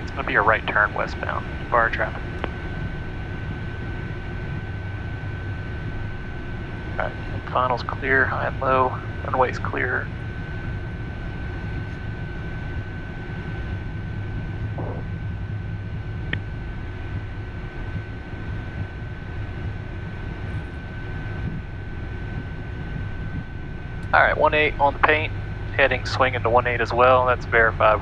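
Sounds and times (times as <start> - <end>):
high engine whine: 0.0 - 28.0
jet engines rumbling: 0.0 - 28.0.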